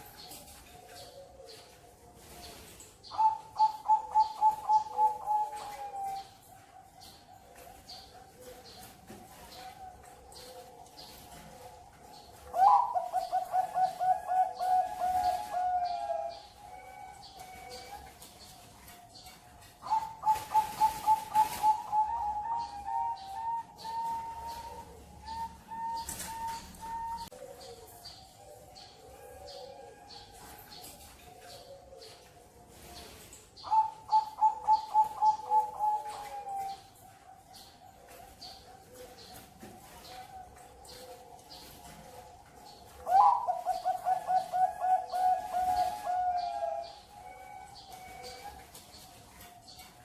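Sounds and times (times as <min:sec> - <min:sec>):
dove rolling coos: 0:00.0 - 0:06.7, 0:07.4 - 0:18.2, 0:19.8 - 0:37.3, 0:38.0 - 0:48.7
faint coos of other doves: 0:00.0 - 0:50.0.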